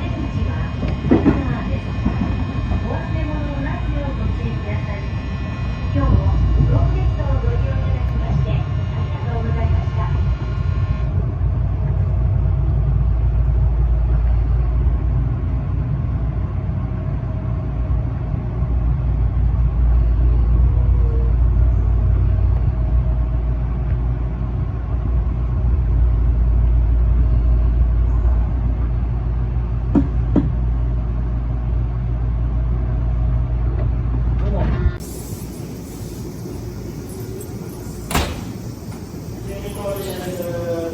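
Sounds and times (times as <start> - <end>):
electric train rumbling: 0.0 - 40.9.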